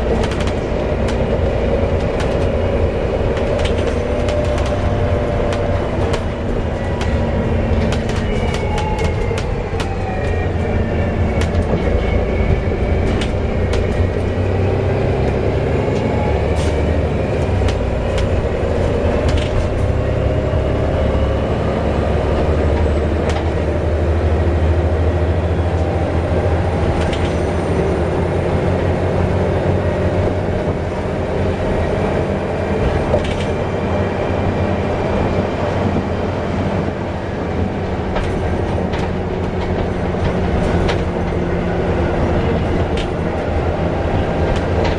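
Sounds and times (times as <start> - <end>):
bus engine drone: 0.0 - 44.9.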